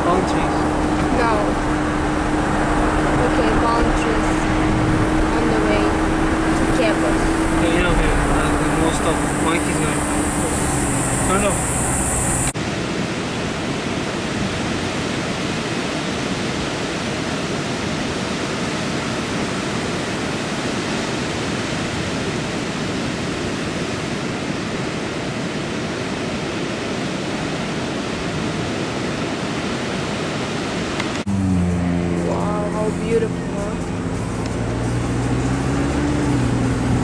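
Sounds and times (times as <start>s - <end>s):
vehicle engine hum: 0.0s - 26.4s, 30.5s - 37.0s
ocean surf breaking: 0.0s - 37.0s.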